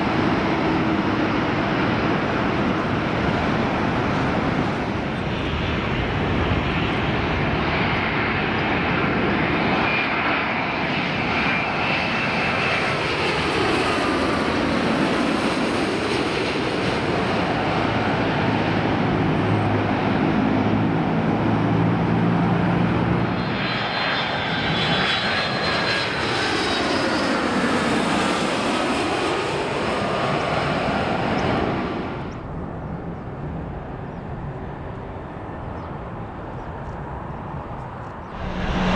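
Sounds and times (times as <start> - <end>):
jet airliners passing overhead: 0.0 - 38.9.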